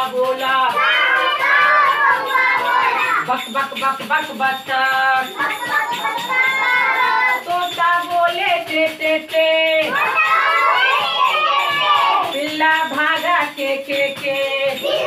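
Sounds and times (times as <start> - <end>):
woman and children singing: 0.0 - 15.0.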